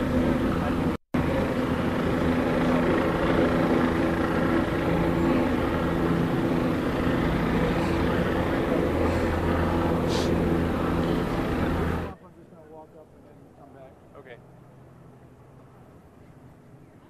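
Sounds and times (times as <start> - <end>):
helicopter drone: 0.0 - 17.0
street noise: 0.0 - 17.0.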